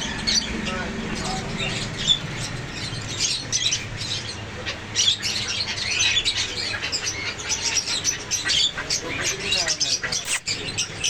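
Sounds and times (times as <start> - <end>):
parrots chirping and squawking: 0.0 - 11.0.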